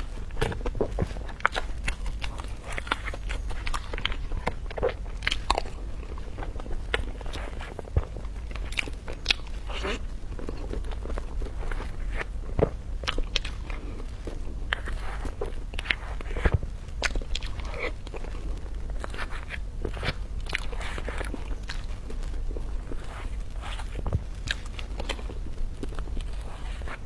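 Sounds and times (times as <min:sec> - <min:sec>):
chewing crunchy food: 0:00.0 - 0:27.0.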